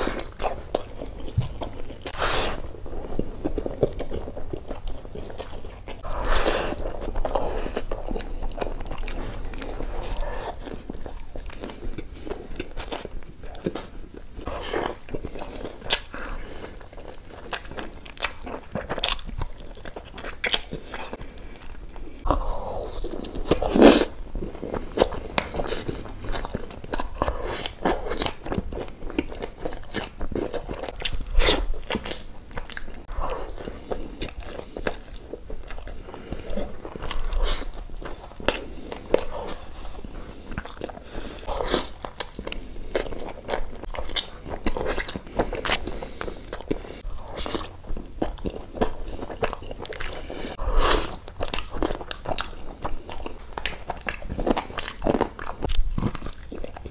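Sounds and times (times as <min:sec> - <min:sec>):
wet chewing and biting: 0:00.0 - 0:56.9.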